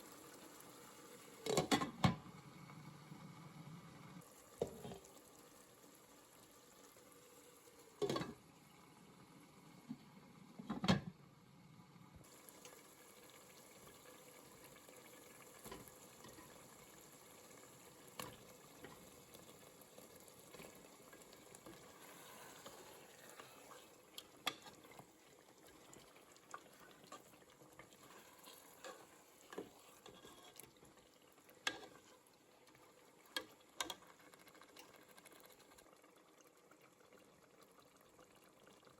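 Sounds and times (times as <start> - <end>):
curry bubbling in a pot: 0.0 - 11.4, 12.2 - 38.9.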